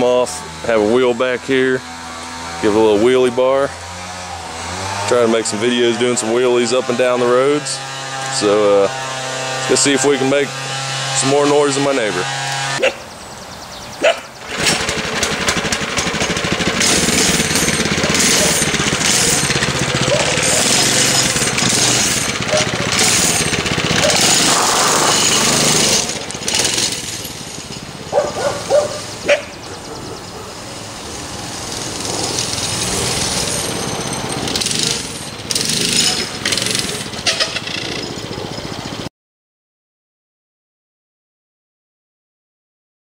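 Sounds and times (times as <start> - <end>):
minibike engine running: 0.0 - 39.1.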